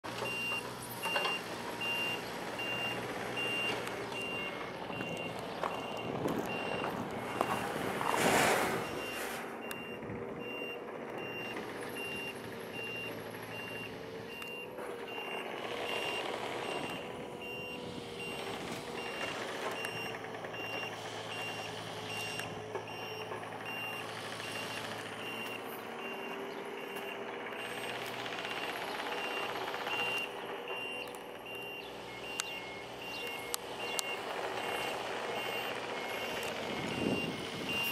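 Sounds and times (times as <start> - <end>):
engine hum: 0.0 - 37.9.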